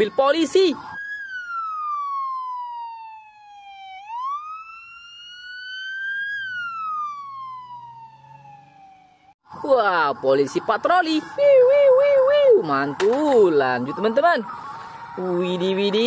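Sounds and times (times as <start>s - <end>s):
police siren wailing: 0.0s - 16.0s.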